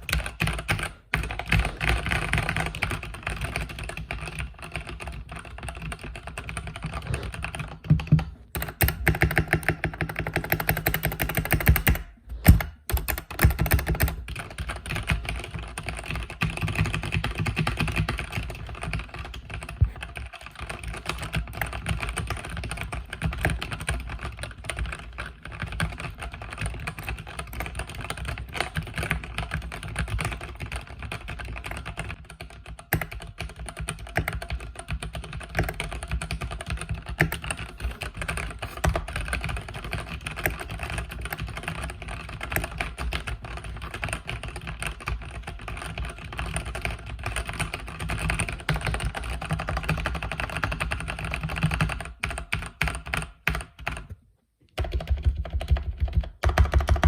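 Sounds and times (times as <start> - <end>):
fast typing on mechanical keyboard: 0.0 - 54.2, 54.8 - 57.0.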